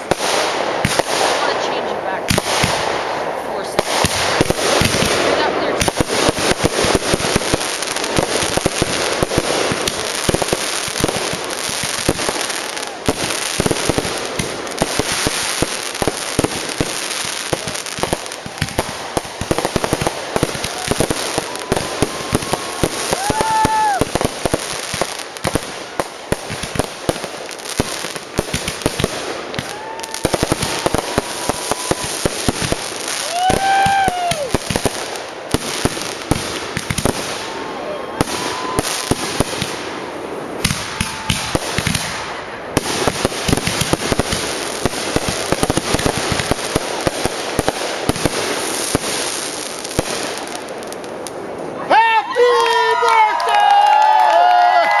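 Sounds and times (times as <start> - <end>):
whistling fireworks: 0.0 - 52.0
fireworks bangs and crackling: 0.0 - 55.0.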